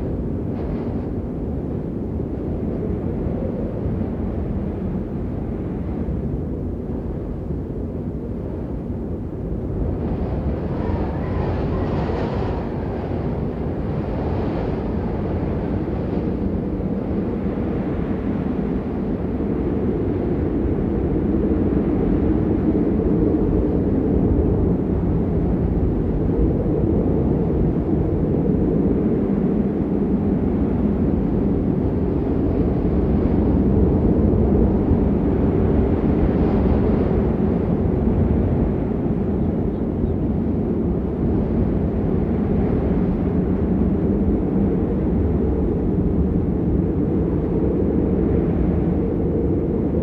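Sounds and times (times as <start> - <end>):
strong wind roaring: 0.0 - 50.0.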